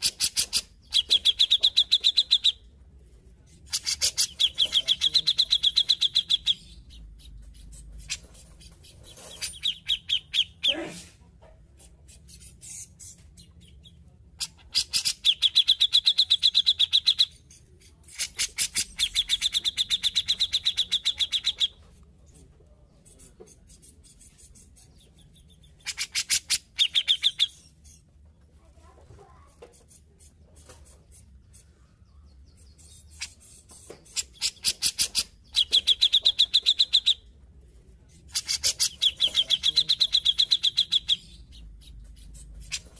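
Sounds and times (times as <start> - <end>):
bulbul chattering trills: 0.0 - 2.7, 3.5 - 10.8, 11.8 - 21.8, 23.0 - 28.1, 29.7 - 37.4, 38.0 - 42.9.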